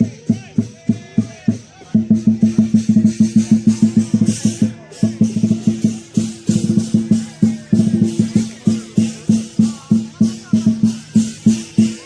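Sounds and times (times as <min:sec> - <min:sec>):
drum and cymbals beat: 0:00.0 - 0:12.0.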